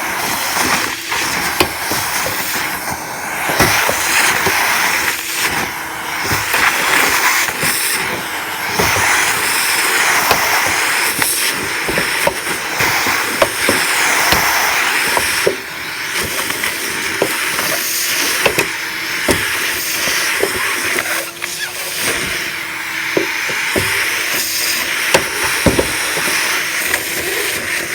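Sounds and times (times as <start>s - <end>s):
vacuum rushing hiss: 0.0s - 27.9s
debris clicking through hose: 0.2s - 27.9s.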